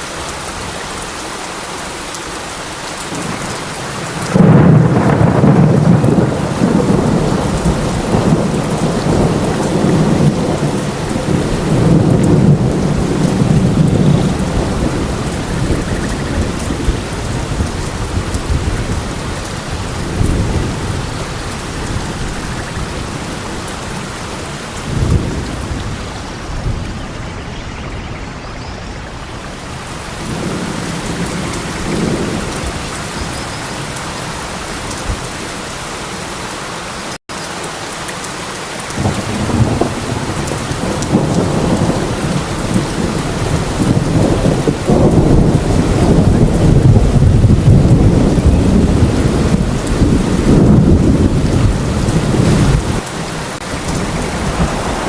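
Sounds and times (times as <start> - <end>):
steady rain falling: 0.0 - 27.8, 28.7 - 55.0
rolling thunder rumbles: 3.1 - 35.5, 39.0 - 55.0.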